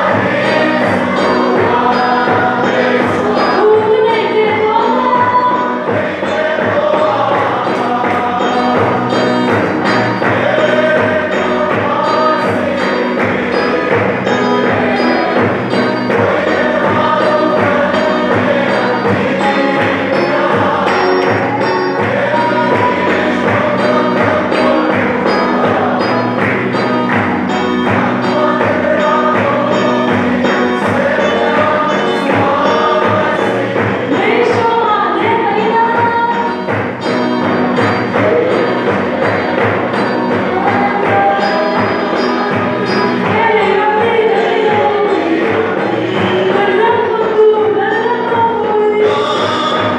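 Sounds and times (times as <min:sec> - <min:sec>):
congregation singing a hymn: 0:00.0 - 0:49.9
steady drum beat: 0:00.0 - 0:49.9.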